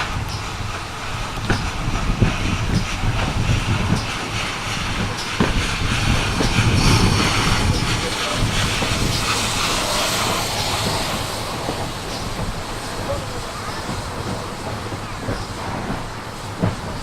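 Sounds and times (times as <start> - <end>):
steam hiss: 0.0 - 17.0
steam train rumble: 0.0 - 17.0.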